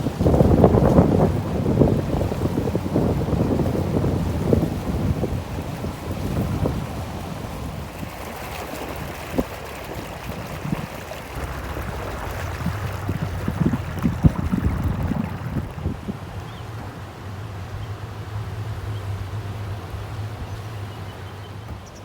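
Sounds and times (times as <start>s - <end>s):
wind buffeting microphone: 0.0s - 21.9s
moving water: 0.0s - 22.0s.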